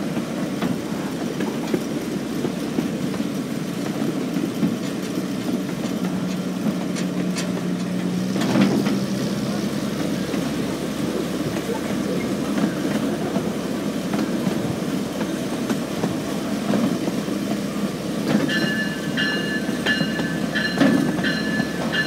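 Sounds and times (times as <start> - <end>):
small train running on track: 0.0 - 22.0
wheels clicking over rail joints: 0.0 - 22.0.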